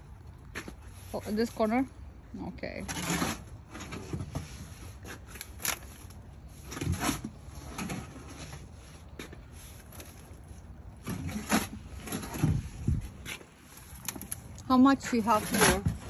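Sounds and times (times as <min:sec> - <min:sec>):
shovel scraping wet soil: 0:02.7 - 0:16.0.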